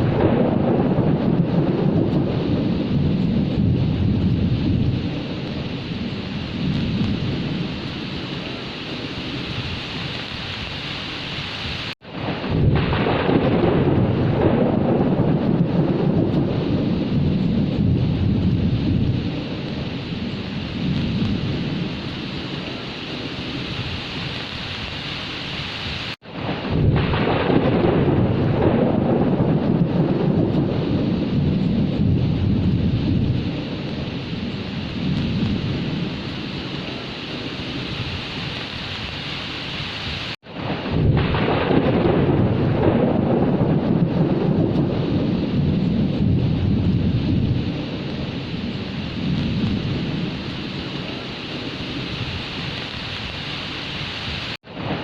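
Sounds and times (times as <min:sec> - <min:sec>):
heavy rain falling: 0:00.0 - 0:55.0
rolling thunder rumble: 0:00.0 - 0:55.0.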